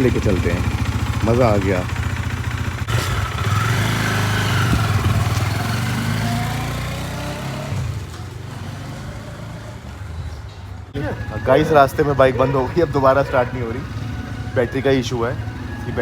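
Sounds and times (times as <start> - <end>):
motorcycle engine running: 0.0 - 9.6, 11.0 - 16.0.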